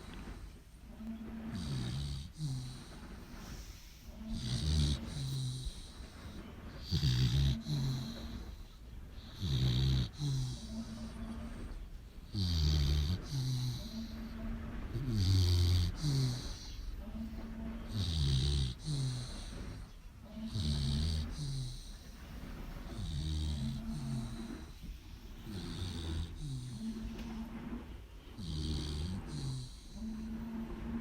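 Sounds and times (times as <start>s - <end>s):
dog snoring: 0.0s - 31.0s.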